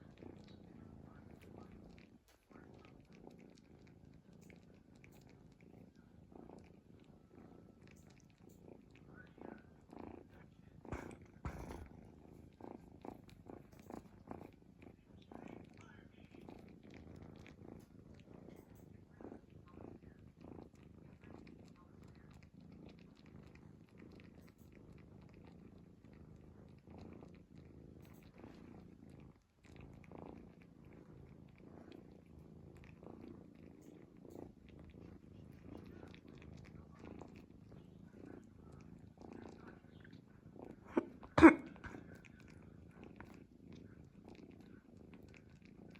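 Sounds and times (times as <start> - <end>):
cat snoring softly: 0.0 - 45.9.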